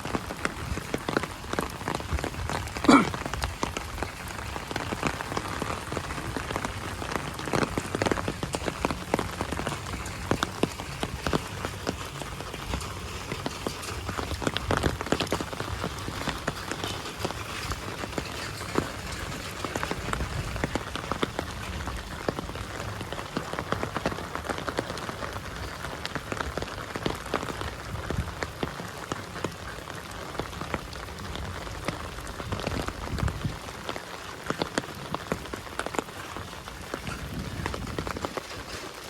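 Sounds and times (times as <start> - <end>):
heavy rain: 0.0 - 39.0
raindrop hits: 0.0 - 39.0.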